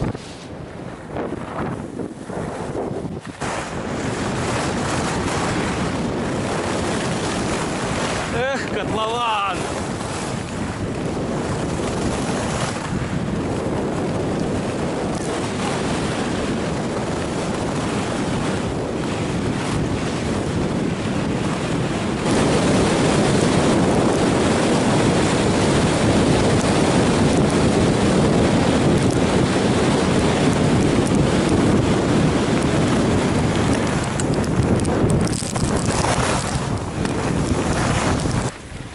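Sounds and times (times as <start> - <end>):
skis running over packed snow: 0.0 - 38.9
wind on microphone: 0.0 - 38.9.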